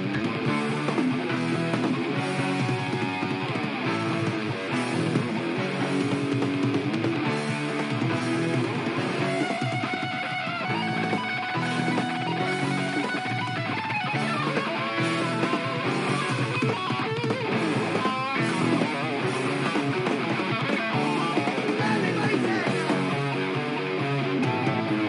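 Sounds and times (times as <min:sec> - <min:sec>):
electric guitar lead: 0:00.0 - 0:25.0
heavy metal band playing: 0:00.0 - 0:25.0.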